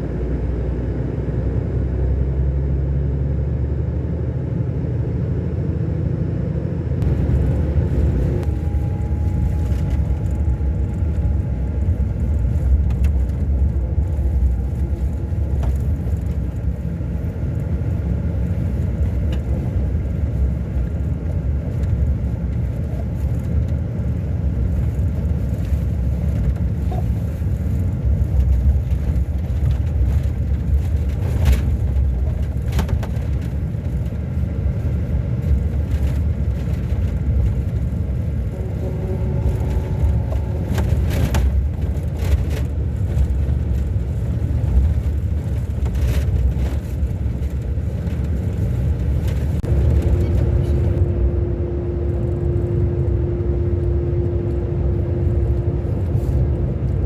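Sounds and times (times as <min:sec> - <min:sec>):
coach engine rumbling: 0:00.0 - 0:57.0.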